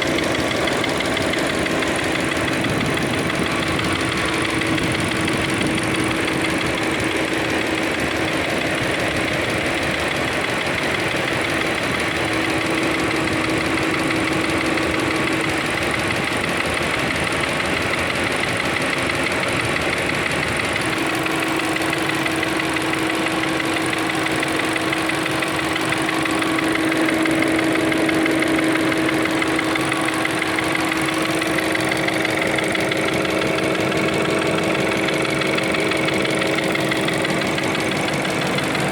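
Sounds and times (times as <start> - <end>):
car engine idling: 0.0 - 38.9
steady engine whine: 0.0 - 38.9.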